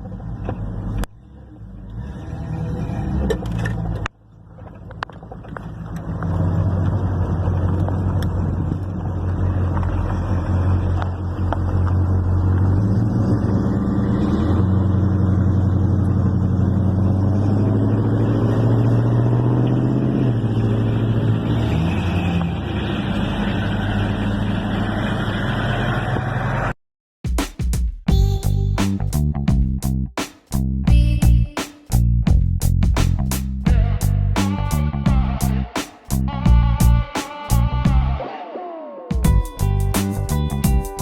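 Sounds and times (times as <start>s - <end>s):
engine rumbling through exhaust: 0.0s - 26.7s, 28.4s - 38.2s, 39.3s - 41.0s.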